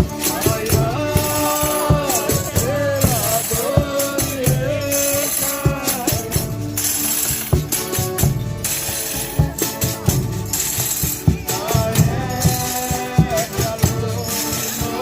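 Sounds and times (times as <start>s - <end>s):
tambourines jingling: 0.0s - 15.0s.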